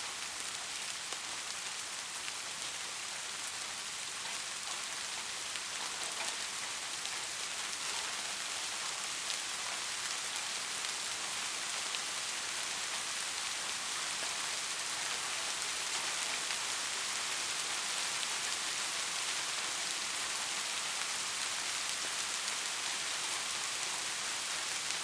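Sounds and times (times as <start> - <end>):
raindrops ticking on a surface: 0.0 - 25.0
steady rain hiss: 0.0 - 25.0.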